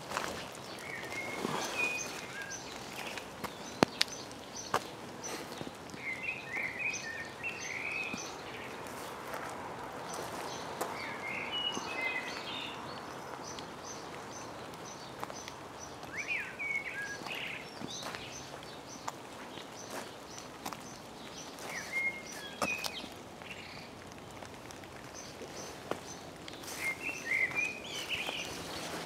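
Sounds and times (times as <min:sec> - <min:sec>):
light rain hiss: 0:00.0 - 0:29.0
blackbird singing: 0:00.6 - 0:08.8, 0:10.2 - 0:19.1, 0:19.8 - 0:23.9, 0:25.1 - 0:29.0.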